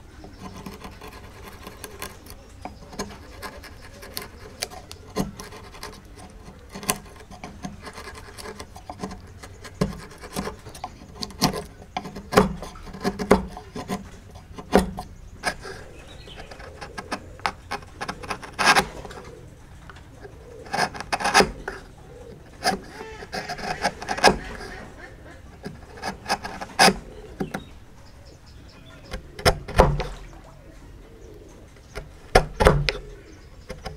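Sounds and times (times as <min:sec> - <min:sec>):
chisel cutting and scraping wood: 0:00.0 - 0:30.5, 0:31.1 - 0:33.9.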